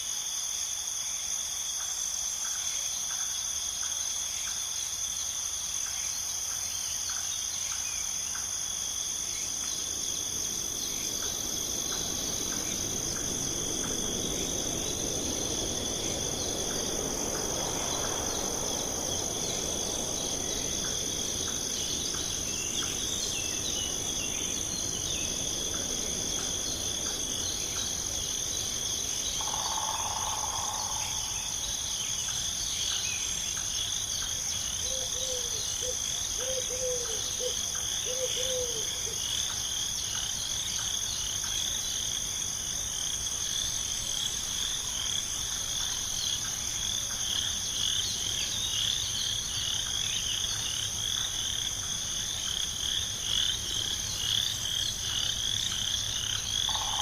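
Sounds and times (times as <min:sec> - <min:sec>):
crickets and insects trilling: 0:00.0 - 0:57.0
soft rushing hiss: 0:03.2 - 0:56.7.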